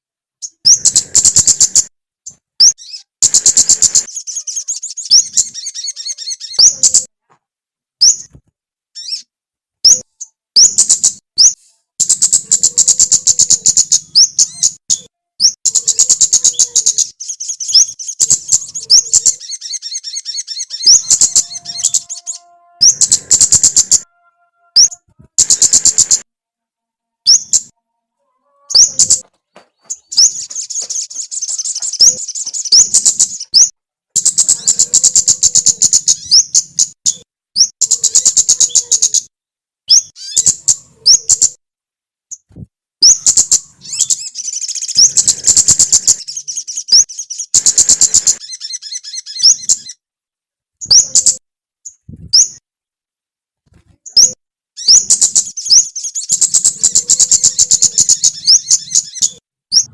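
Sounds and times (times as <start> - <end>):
songbird chattering song: 0.4 - 7.1, 8.0 - 8.3, 9.0 - 26.2, 27.3 - 39.3, 39.9 - 41.6, 43.0 - 50.0, 50.8 - 52.6, 54.0 - 59.9.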